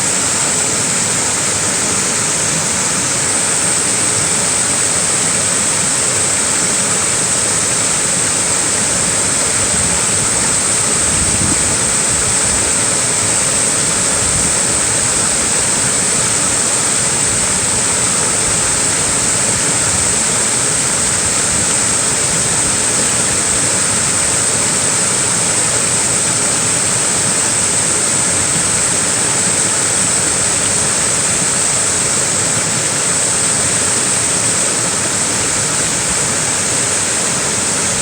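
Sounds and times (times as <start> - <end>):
small waterfall splashing: 0.0 - 38.0.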